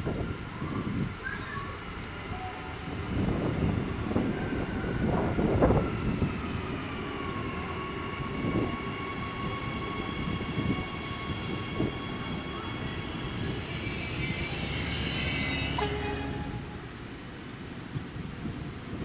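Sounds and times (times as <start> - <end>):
low train rumble: 0.0 - 19.0
train electric whine: 2.1 - 17.5.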